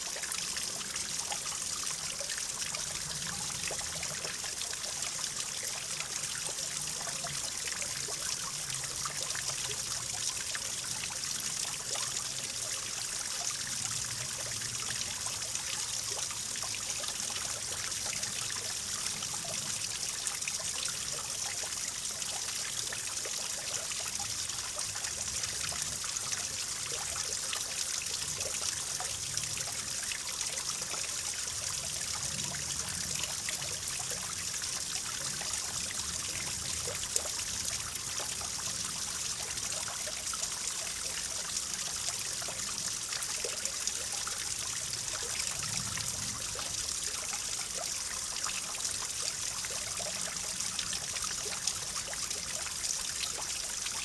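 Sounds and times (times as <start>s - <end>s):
small waterfall splashing into pool: 0.0s - 54.0s.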